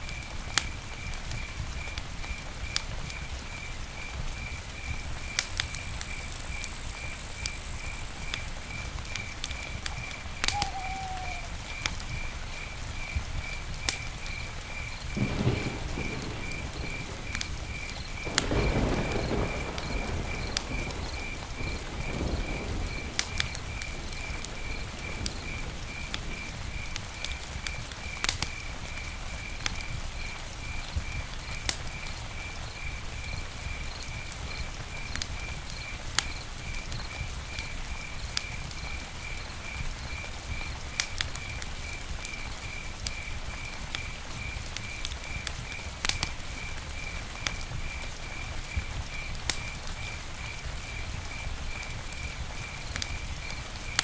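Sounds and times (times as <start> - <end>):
campfire crackling and popping: 0.0 - 54.0
rushing flame: 0.1 - 38.7, 39.3 - 54.0.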